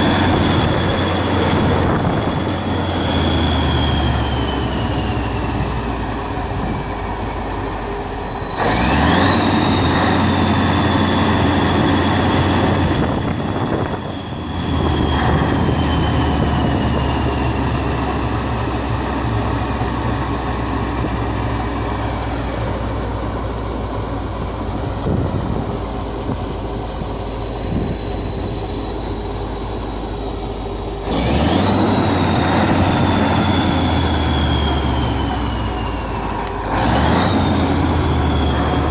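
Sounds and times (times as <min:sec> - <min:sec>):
diesel engine running: 0:00.0 - 0:38.9
turbo whine: 0:00.0 - 0:38.9.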